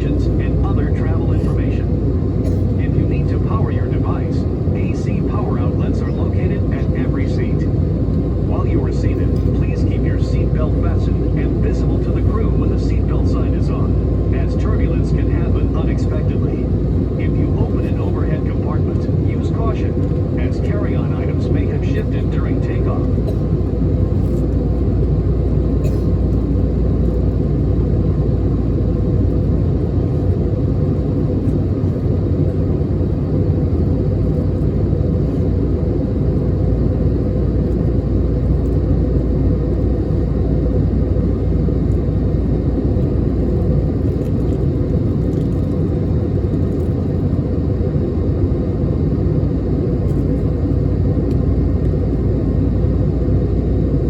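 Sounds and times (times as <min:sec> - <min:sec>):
airplane cabin engine rumble: 0:00.0 - 0:54.0
faint steady hum: 0:00.0 - 0:54.0.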